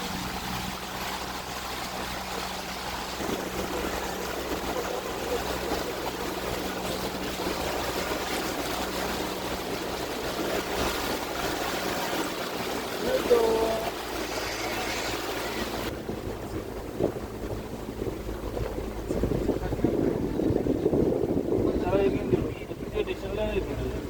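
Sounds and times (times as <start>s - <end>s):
motorboat engine hum: 0.0s - 24.0s
water rushing: 0.0s - 24.0s.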